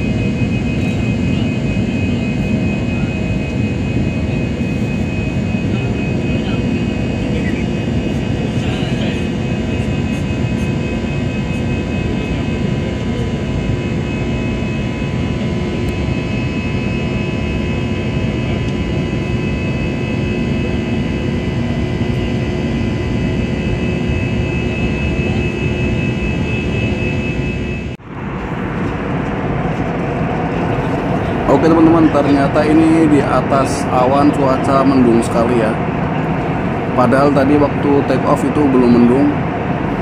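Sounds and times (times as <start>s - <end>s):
constant whining tones: 0.0s - 40.0s
jet engines roaring in cabin: 0.0s - 40.0s.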